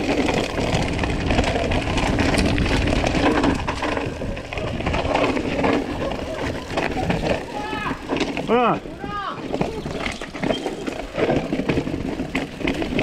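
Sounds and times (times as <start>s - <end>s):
bike knocks and rattles: 0.0s - 13.0s
tyres crunching on loose stones: 0.0s - 13.0s.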